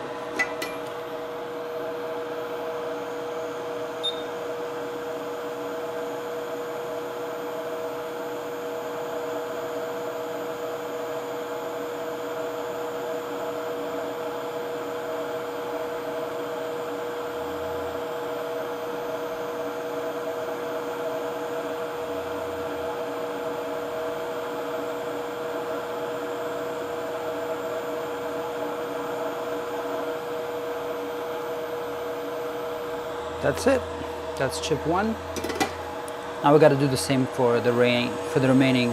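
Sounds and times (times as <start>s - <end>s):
hot-air rework station blowing: 0.0s - 9.3s, 14.5s - 38.9s.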